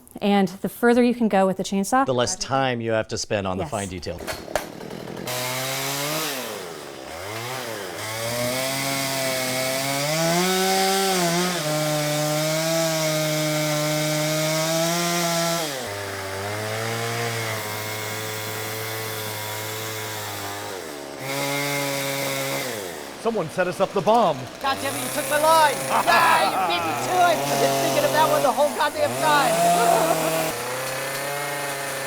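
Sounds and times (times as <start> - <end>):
chainsaw cutting wood: 3.7 - 32.0.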